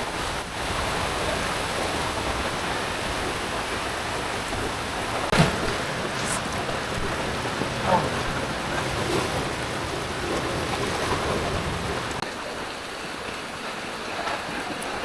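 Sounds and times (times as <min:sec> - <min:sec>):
floodwater rushing: 0:00.0 - 0:15.0
heavy rain: 0:00.0 - 0:15.0.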